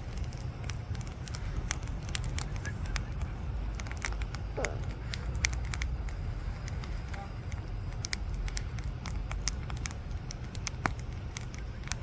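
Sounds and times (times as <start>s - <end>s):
campfire wood crackling: 0.0s - 12.0s
low rumble: 0.0s - 12.0s.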